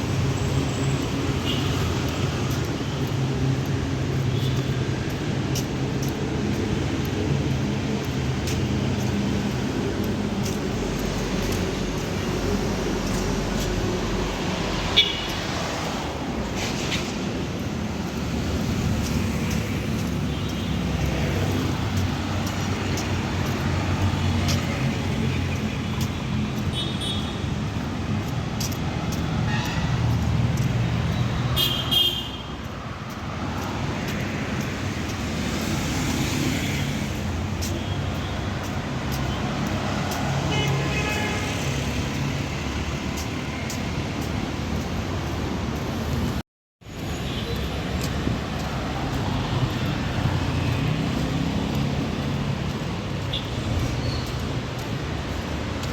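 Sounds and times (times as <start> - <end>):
traffic passing: 0.0 - 55.9.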